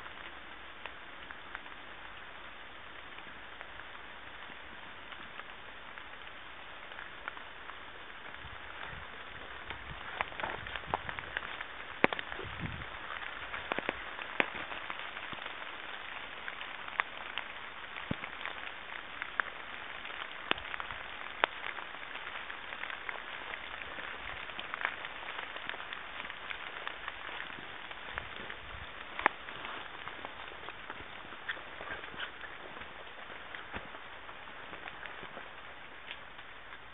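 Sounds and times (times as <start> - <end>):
raindrops pattering close by: 0.0 - 36.9
steady rain in woodland: 0.0 - 36.9.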